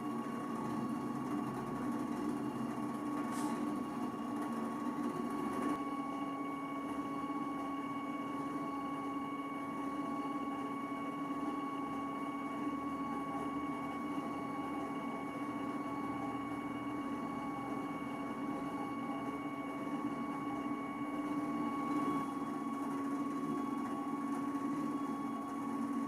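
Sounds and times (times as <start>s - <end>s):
stepper motor whine: 3.3s - 26.0s.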